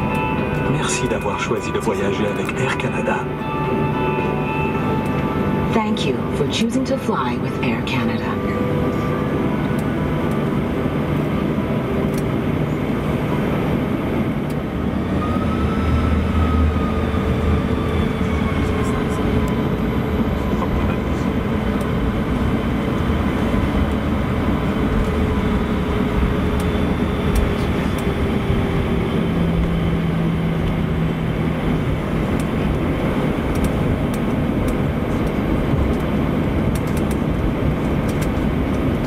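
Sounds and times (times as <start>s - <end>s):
aircraft cabin engine rumble: 0.0s - 39.0s
low hum: 0.0s - 39.0s.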